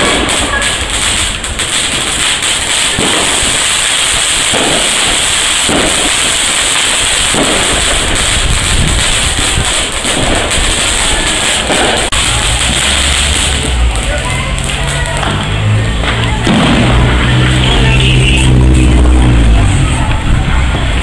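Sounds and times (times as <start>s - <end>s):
firecrackers crackling: 0.0s - 21.0s.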